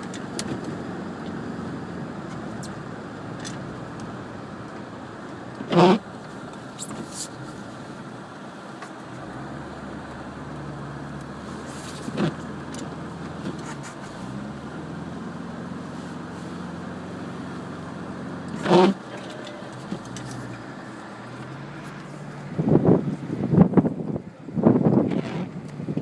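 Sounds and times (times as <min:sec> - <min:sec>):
car engine and road hum: 0:00.0 - 0:26.0.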